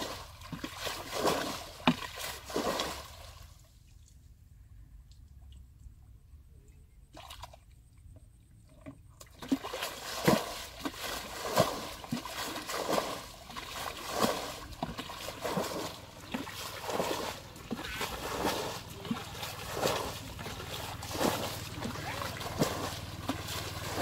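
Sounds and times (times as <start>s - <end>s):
bucket splashing and sloshing water: 0.0s - 4.1s, 7.1s - 24.0s.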